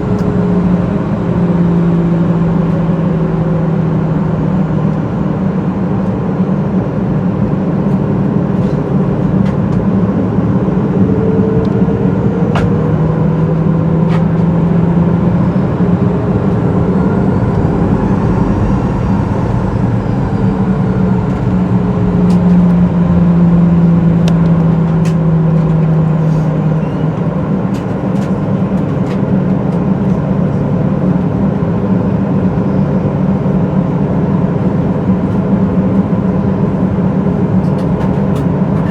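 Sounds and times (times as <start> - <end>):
jet engine cabin drone: 0.0 - 38.9.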